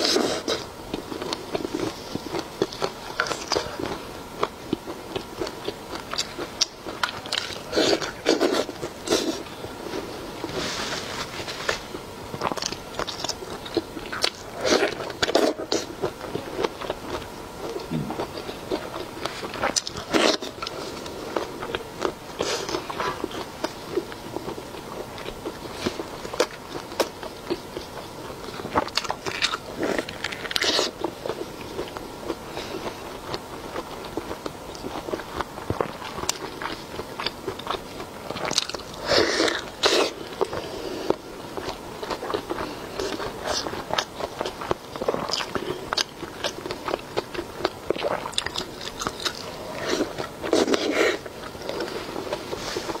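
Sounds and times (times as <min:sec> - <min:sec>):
crunchy biting and chewing: 0:00.0 - 0:53.0.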